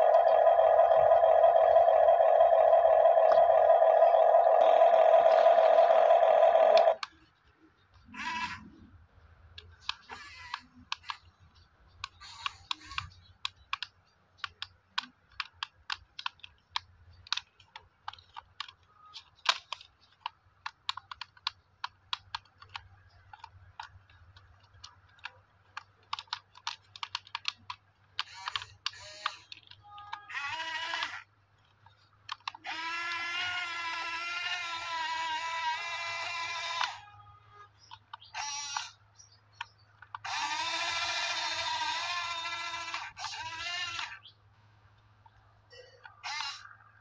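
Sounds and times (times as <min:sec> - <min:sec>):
toy excavator gears clicking: 0:00.0 - 0:07.3, 0:09.6 - 0:39.0, 0:39.6 - 0:44.3, 0:45.8 - 0:46.8.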